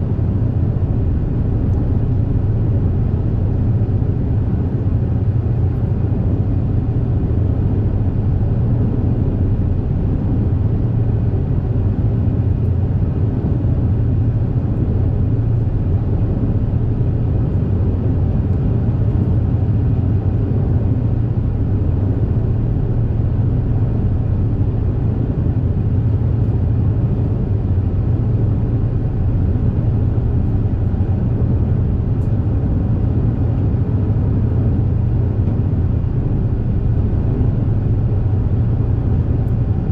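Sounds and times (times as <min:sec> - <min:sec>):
boat cabin hum and rumble: 0:00.0 - 0:39.9.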